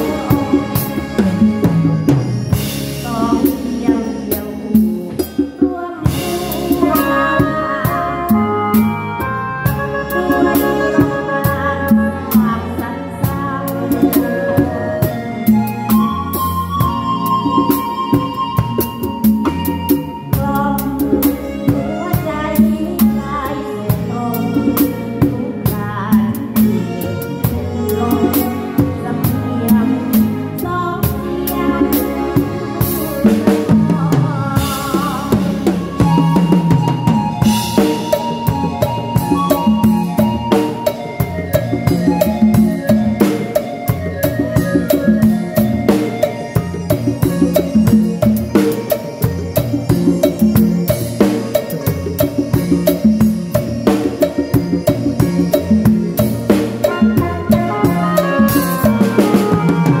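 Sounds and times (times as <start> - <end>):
band playing: 0.0 - 60.0
bass line: 0.0 - 60.0
drum kit beat: 0.0 - 60.0.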